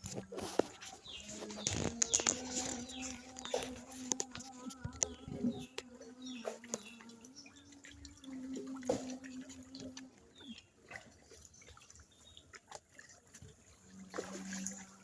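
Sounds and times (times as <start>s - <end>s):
water drips and splashes: 0.0s - 15.0s.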